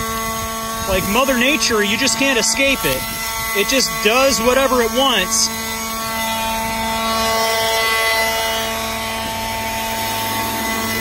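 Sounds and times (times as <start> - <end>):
leaf blower running: 0.0 - 11.0.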